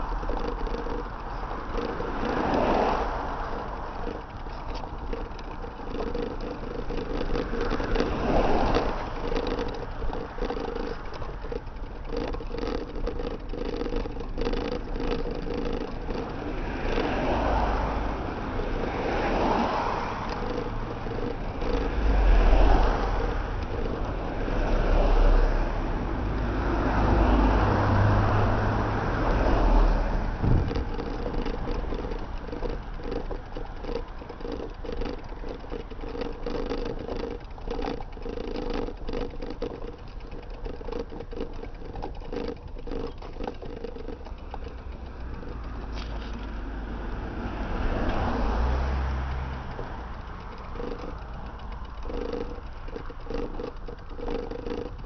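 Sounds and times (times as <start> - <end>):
cars passing: 0.0 - 55.0
road noise and rattle: 0.0 - 55.0.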